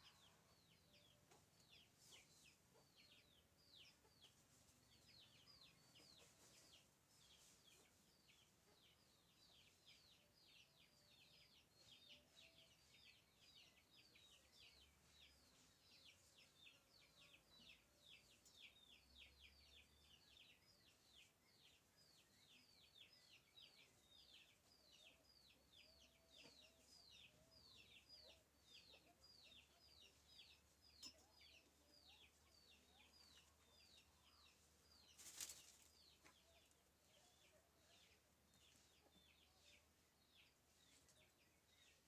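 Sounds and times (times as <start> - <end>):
faint bird chirping: 0.0 - 42.0.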